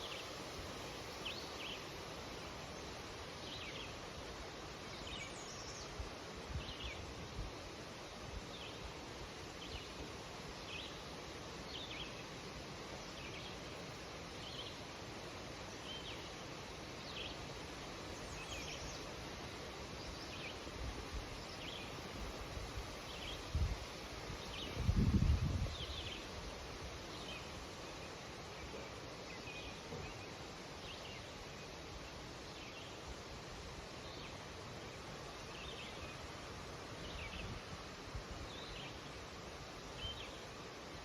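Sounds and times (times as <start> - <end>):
wind rustling leaves: 0.0 - 41.0.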